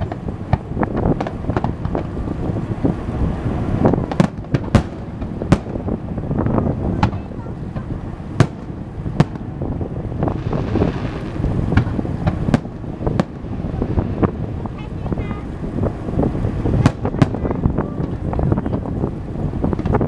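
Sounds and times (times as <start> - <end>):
fireworks bangs: 0.0 - 20.0
fireworks crackles: 0.0 - 20.0
low rumble: 0.0 - 20.0.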